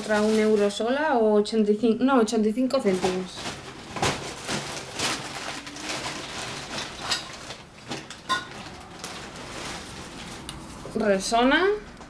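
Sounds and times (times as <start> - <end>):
plastic bag rustling: 0.0 - 1.0, 2.6 - 11.8.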